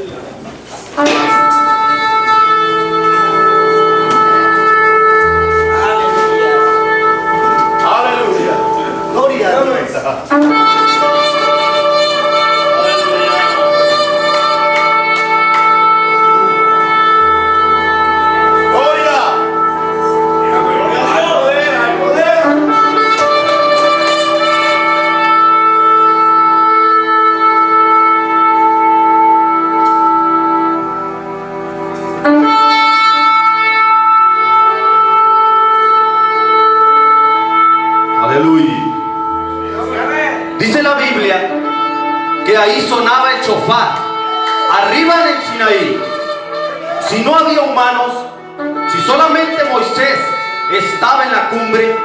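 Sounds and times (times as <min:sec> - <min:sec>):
shofar blast: 0:01.0 - 0:09.2, 0:10.3 - 0:47.2, 0:48.3 - 0:52.0.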